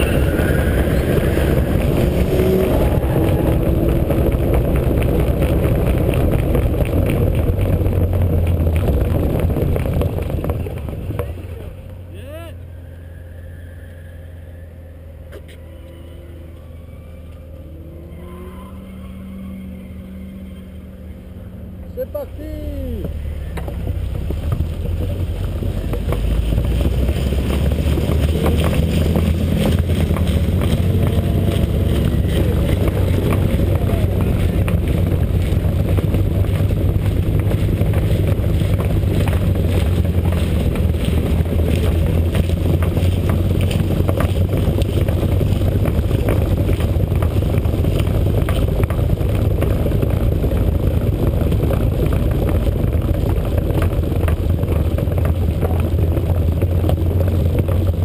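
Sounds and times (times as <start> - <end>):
wind rumbling over microphone: 0.0 - 12.1, 22.9 - 58.0
car engine running at low revs: 0.0 - 58.0.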